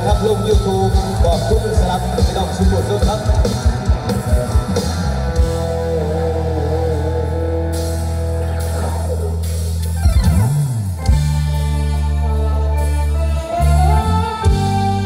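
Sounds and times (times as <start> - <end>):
electric guitar melody: 0.0 - 15.0
held bass notes: 0.0 - 15.0.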